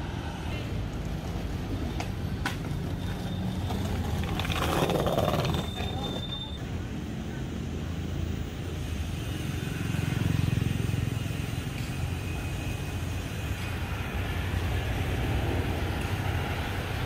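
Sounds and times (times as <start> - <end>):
motorcycle and car traffic passing: 0.0 - 17.0.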